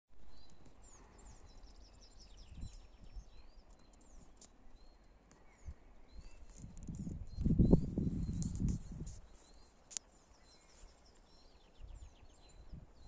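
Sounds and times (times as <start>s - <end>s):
small birds singing: 0.2s - 13.0s.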